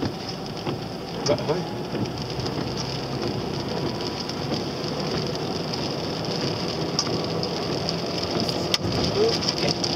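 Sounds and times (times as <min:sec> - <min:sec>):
car road and engine noise: 0:00.0 - 0:09.9.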